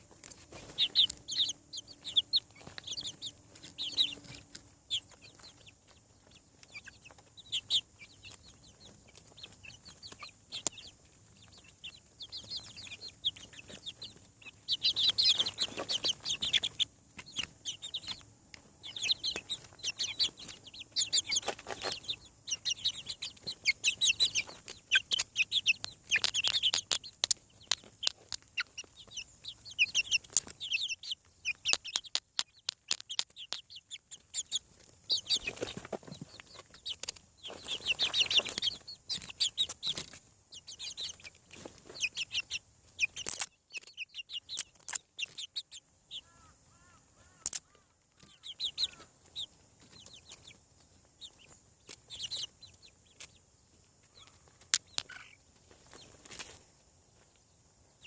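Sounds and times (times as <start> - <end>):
chicks peeping and chirping: 0.0 - 58.0.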